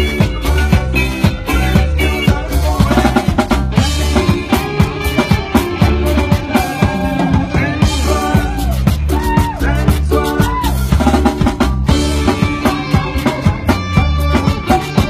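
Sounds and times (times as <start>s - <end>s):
bass drum and snare beat: 0.0s - 15.0s.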